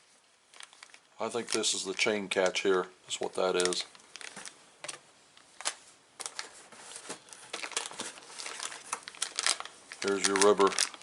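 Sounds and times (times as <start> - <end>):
plastic bags crinkling: 0.5 - 11.0.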